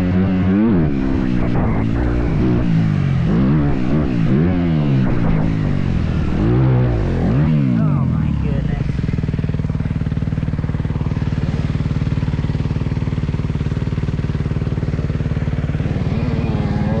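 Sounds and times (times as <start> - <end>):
motorbike engine idling: 0.0 - 17.0.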